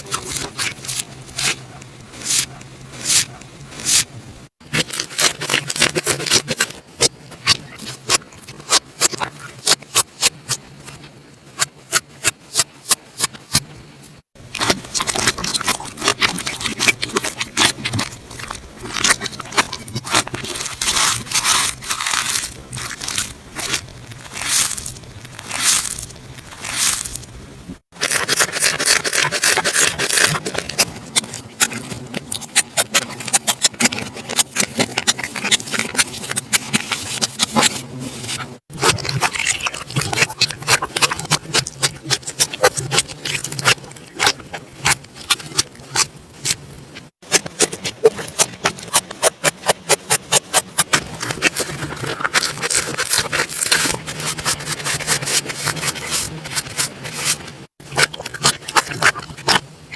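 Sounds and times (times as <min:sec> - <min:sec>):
slime squishing with sticky pops: 0:00.0 - 0:11.0, 0:14.4 - 0:59.6.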